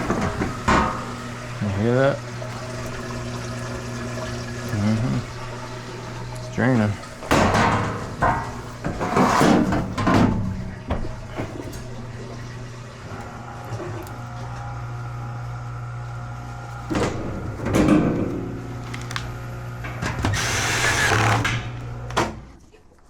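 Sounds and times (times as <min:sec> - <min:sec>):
drain pump humming: 0:00.0 - 0:22.5.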